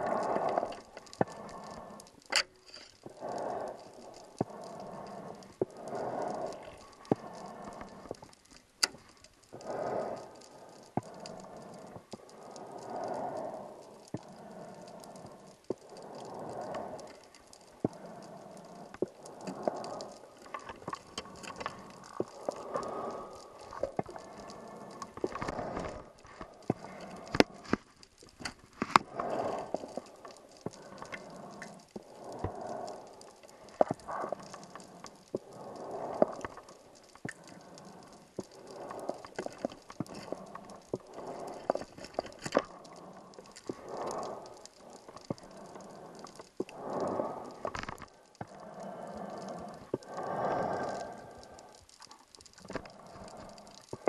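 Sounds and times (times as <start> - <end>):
regulator bubbly exhalations: 0.0 - 54.0.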